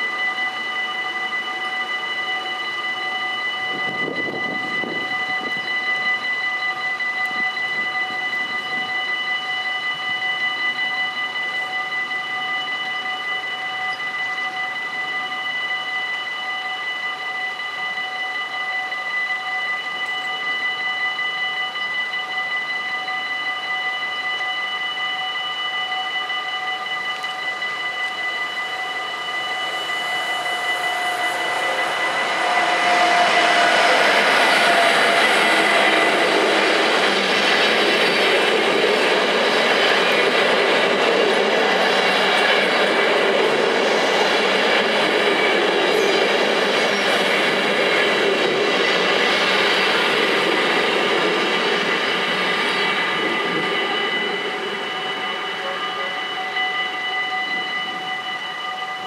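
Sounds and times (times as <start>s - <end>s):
level crossing bells ringing: 0.0s - 59.0s
train rail rumble and wheel noise: 0.0s - 59.0s.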